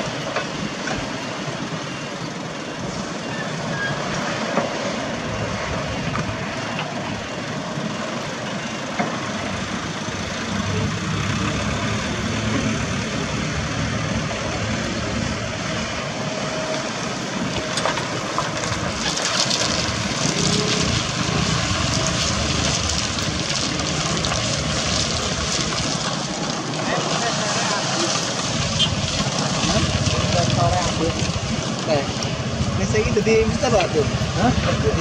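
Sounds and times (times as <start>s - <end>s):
diesel truck engines rumbling: 0.0s - 35.0s.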